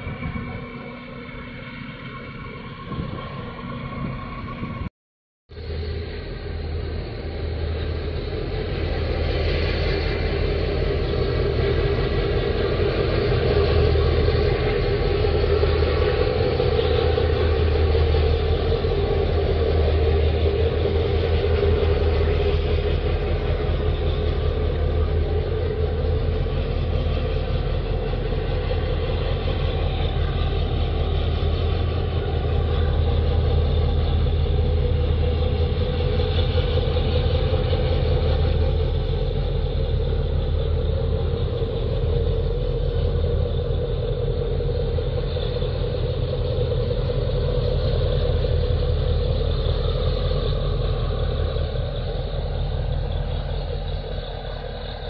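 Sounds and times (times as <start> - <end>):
ship diesel engine rumble: 0.0 - 4.9, 5.5 - 55.0.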